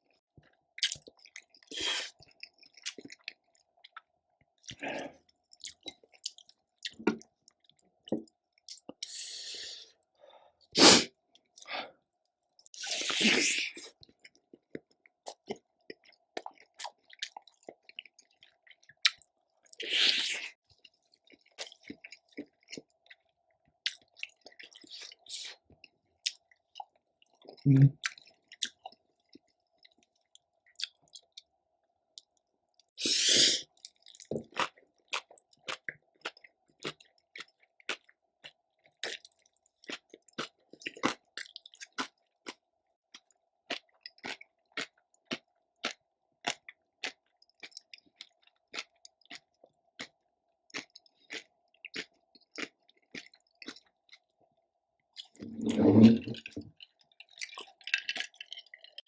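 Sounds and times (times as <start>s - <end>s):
chewing with wet mouth clicks: 0.4s - 9.1s, 13.9s - 19.8s, 20.6s - 31.5s, 33.6s - 54.4s, 55.0s - 55.5s, 56.4s - 59.0s.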